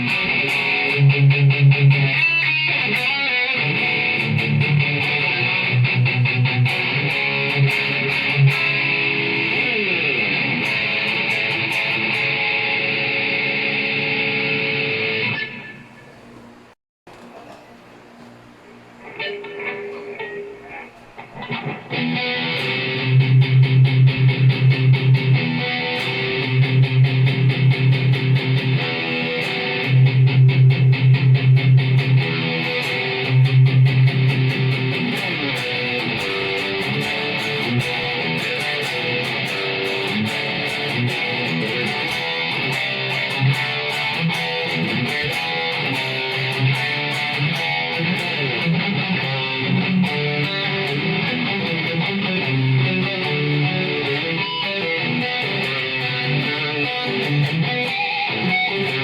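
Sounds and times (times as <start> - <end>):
distorted electric guitar riffing: 0.0 - 16.3, 18.9 - 59.0.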